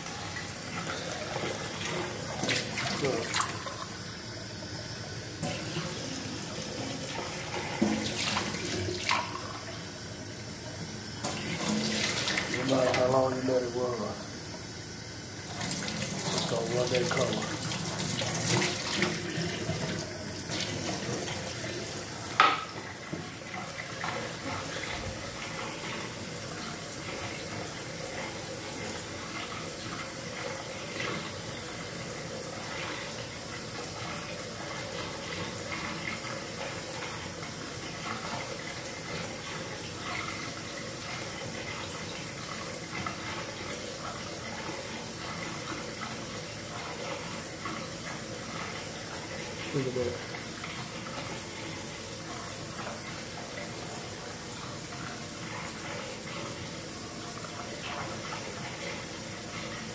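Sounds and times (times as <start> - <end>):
water splashing into a steel sink: 0.0 - 4.0, 5.4 - 10.0, 11.1 - 14.1, 15.4 - 59.9
tap water running: 0.0 - 59.9.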